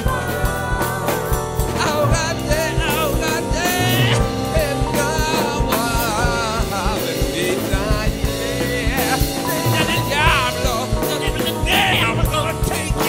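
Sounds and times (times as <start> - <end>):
jazz band playing: 0.0 - 13.0
person singing: 0.0 - 13.0.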